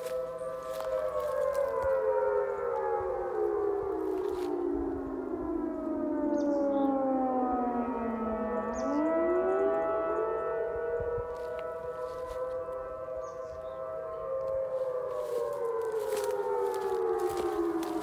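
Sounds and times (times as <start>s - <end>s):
outdoor warning sirens wailing: 0.0s - 18.0s.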